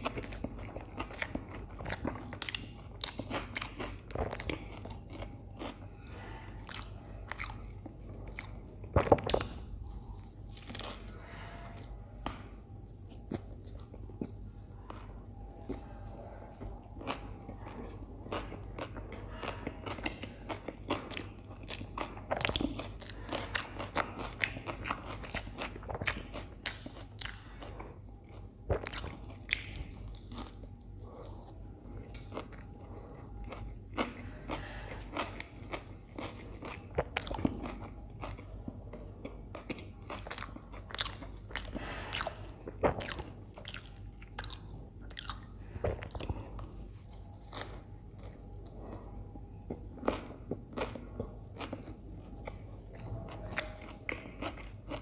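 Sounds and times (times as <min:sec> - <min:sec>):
crunchy chewing of toasted bread: 0:00.0 - 0:55.0.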